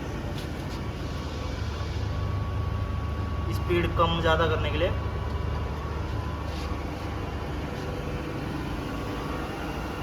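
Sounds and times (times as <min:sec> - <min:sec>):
faint steady whine: 0:00.0 - 0:10.0
grinding machine humming: 0:00.0 - 0:10.0.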